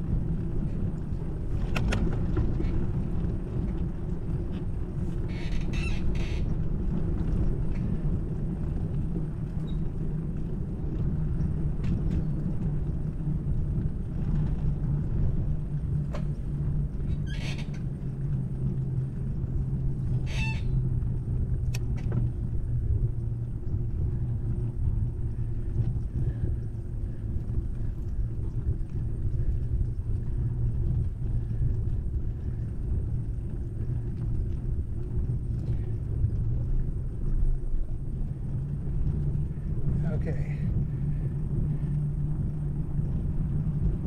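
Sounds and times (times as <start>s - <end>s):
bicycle tyres rolling on concrete: 0.0s - 44.0s
low hum: 0.0s - 44.0s
wind buffeting camera: 0.0s - 44.0s.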